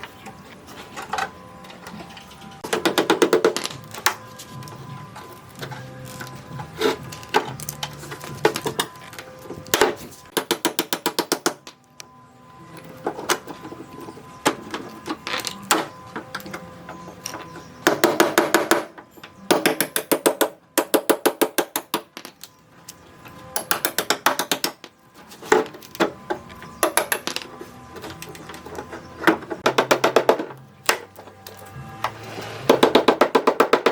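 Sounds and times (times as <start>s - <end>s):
faint background music: 0.0s - 33.9s.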